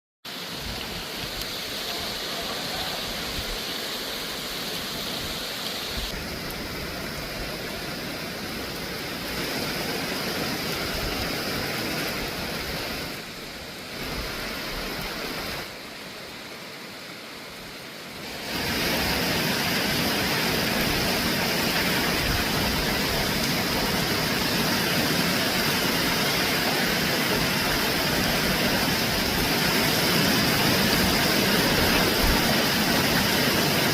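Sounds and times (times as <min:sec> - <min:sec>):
heavy rain pouring: 0:00.3 - 0:33.9.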